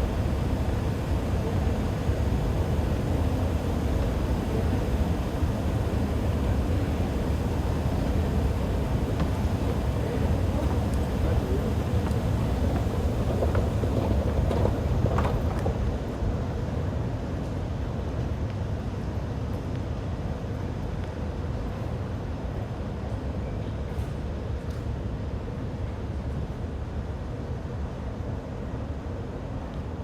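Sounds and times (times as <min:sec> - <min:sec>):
metro train rumbling: 0:00.0 - 0:30.0.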